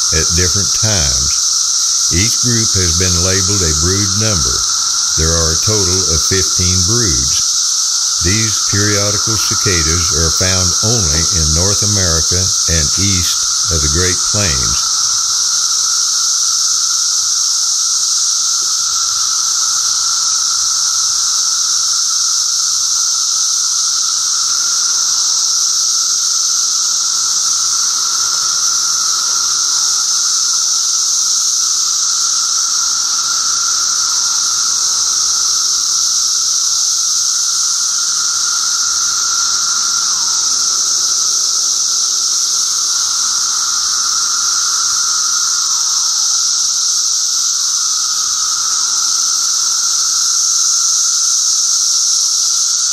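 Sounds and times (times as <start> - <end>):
cicadas buzzing: 0.0 - 52.9.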